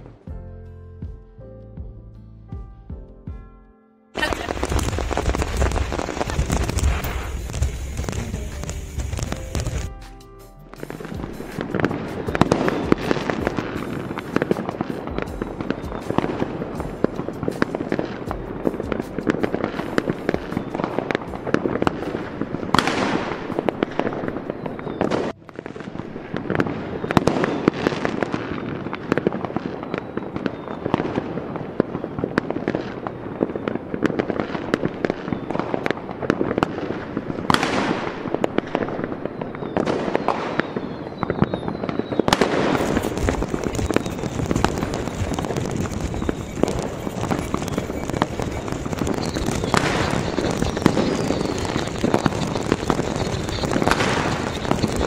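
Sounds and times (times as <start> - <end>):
fireworks bangs and crackles: 4.2 - 10.0, 10.8 - 55.0.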